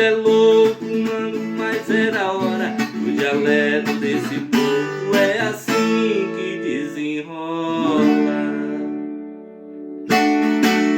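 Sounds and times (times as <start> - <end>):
person singing: 0.0 - 9.6
strummed guitar chords: 0.0 - 10.9.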